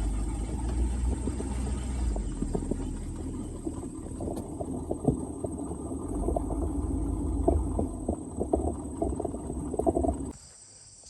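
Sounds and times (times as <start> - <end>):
pickup truck engine rumble: 0.0 - 10.3
truck knocks and rattles: 0.0 - 10.3.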